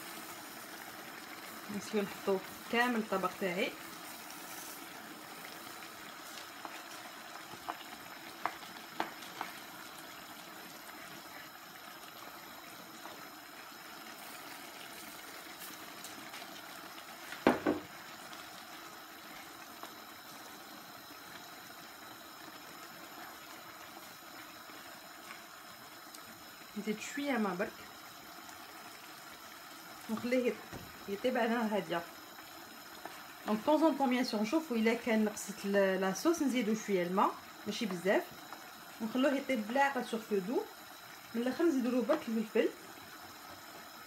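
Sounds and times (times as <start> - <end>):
broth simmering in a pan: 0.0 - 44.0.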